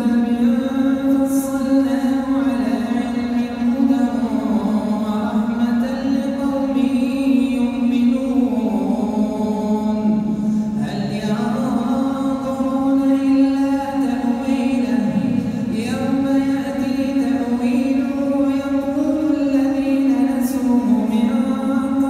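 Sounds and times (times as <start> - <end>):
man chanting melodic recitation: 0.0 - 22.0.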